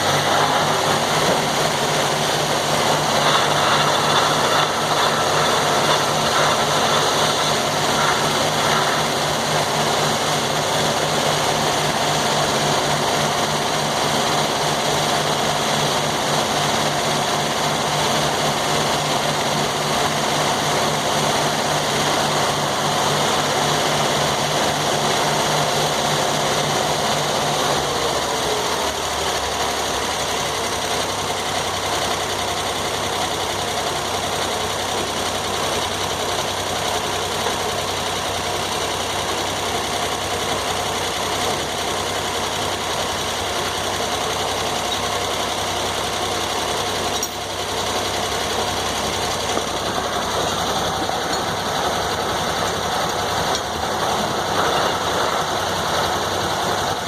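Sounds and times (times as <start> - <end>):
circular sawmill running: 0.0 - 57.0.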